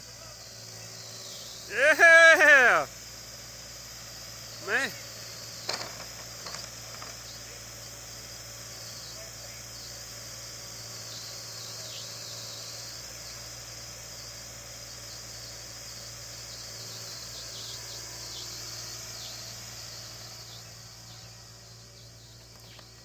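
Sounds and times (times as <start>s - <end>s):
insects buzzing chorus: 0.0s - 23.0s.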